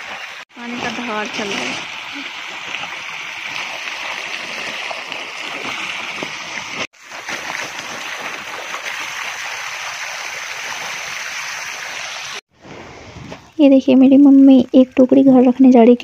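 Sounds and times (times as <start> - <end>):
water gushing and splashing: 0.0 - 13.6.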